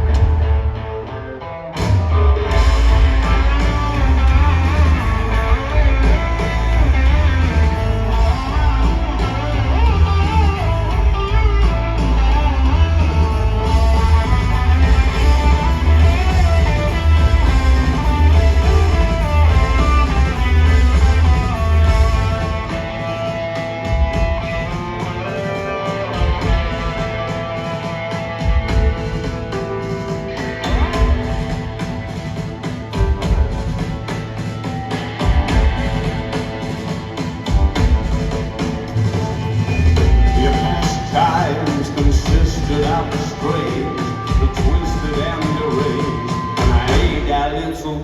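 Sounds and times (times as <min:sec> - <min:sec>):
bass guitar: 0:00.0 - 0:48.0
drums: 0:00.0 - 0:48.0
electric guitar with bent notes: 0:00.0 - 0:48.0.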